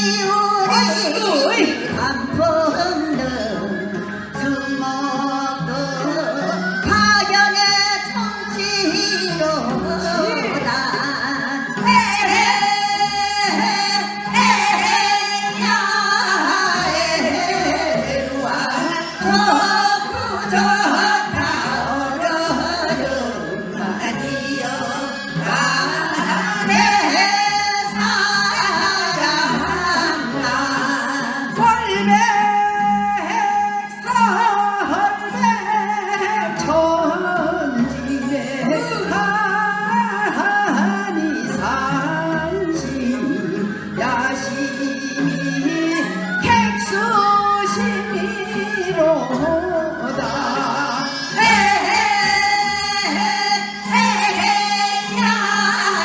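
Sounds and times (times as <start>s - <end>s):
folk singing with wavering notes: 0.0s - 56.0s
instrumental accompaniment: 0.0s - 56.0s.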